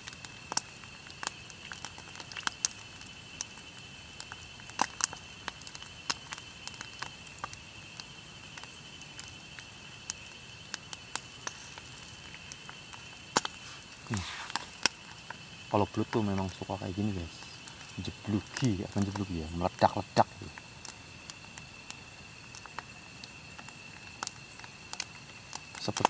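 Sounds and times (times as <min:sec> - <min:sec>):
fish frying in popping oil: 0:00.0 - 0:26.0.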